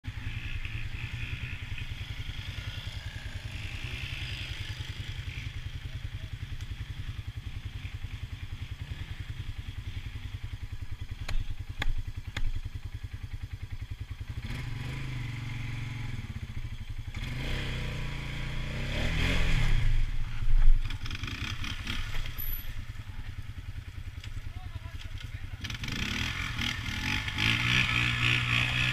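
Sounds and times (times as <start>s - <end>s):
atv engine running: 0.1s - 28.9s.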